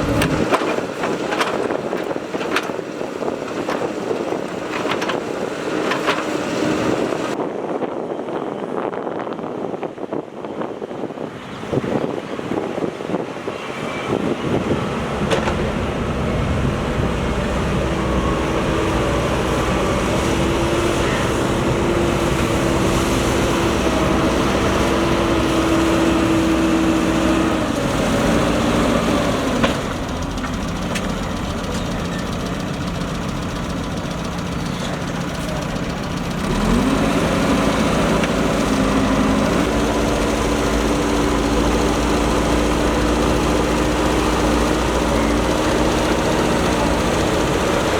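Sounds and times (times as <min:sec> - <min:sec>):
diesel engine running and revving: 0:00.0 - 0:07.4, 0:11.7 - 0:47.9.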